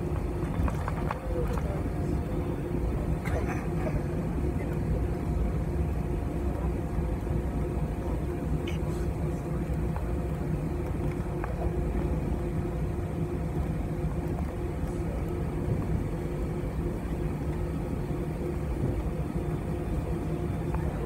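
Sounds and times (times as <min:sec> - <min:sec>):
aircraft engines humming: 0:00.0 - 0:21.0
faint steady whine: 0:00.0 - 0:21.0.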